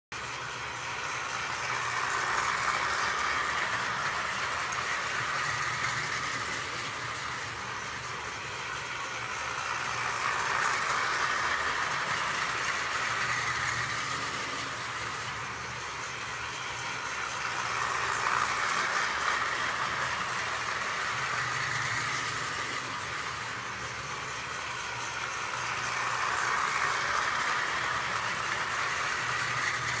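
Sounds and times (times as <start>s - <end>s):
toy train wheels clattering on rails: 0.2s - 30.0s.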